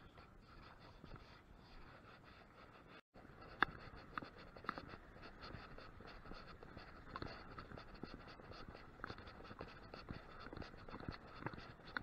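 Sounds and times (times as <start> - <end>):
fishing reel clicking and scratching: 1.8 - 12.0.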